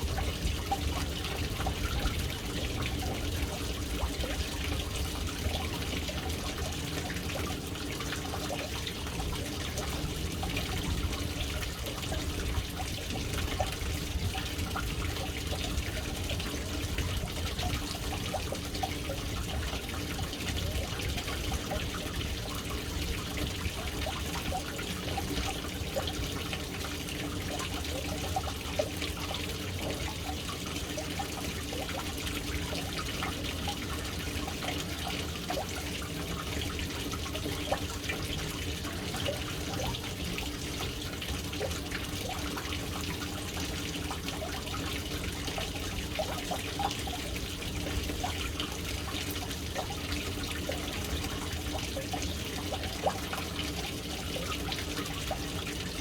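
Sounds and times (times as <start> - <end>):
water splashing into a tank: 0.0 - 56.0.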